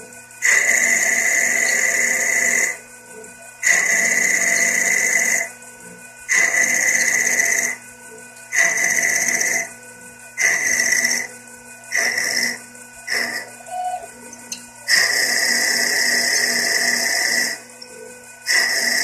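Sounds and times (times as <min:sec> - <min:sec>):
lathe high-pitched whine: 0:00.0 - 0:19.0.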